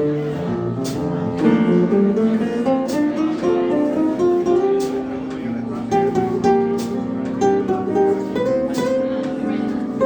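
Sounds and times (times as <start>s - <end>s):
jazz guitar: 0.0s - 10.0s
piano chords: 0.0s - 10.0s.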